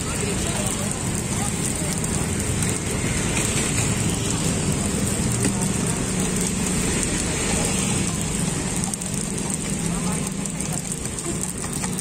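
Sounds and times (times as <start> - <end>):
food sizzling on griddle: 0.0 - 12.0
street traffic rumble: 0.0 - 12.0.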